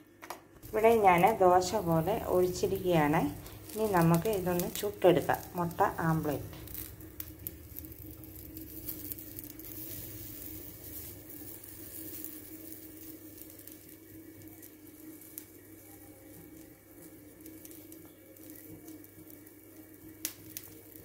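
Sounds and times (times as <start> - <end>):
steady low hum: 0.0 - 21.0
batter sizzling on a griddle: 0.6 - 21.0.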